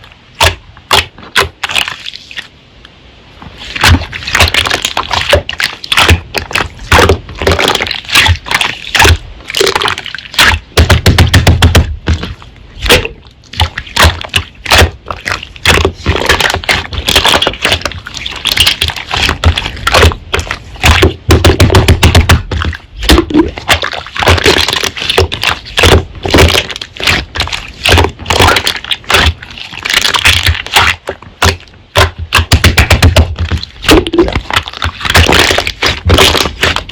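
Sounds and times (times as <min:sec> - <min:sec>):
slime squelching: 0:00.0 - 0:02.5, 0:03.4 - 0:36.9
slime crackling and popping: 0:03.6 - 0:36.9.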